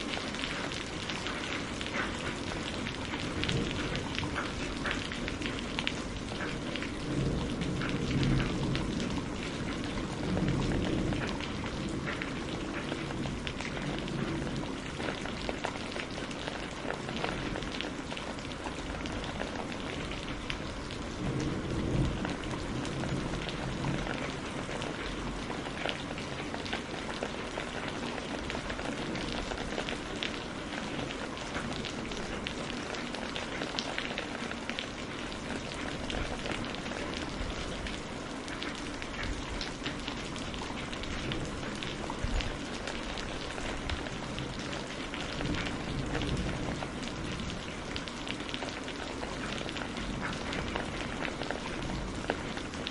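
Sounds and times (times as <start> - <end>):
rain falling on a surface: 0.0 - 52.9.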